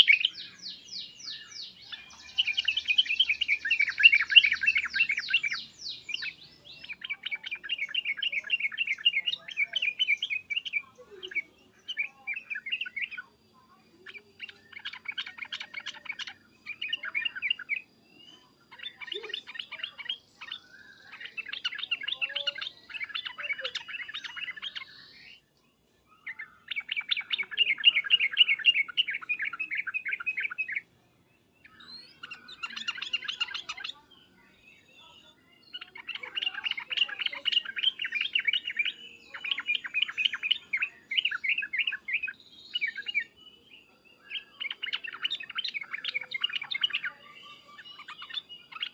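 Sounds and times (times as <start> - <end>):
bulbul singing chattering phrases: 0.0 - 48.9.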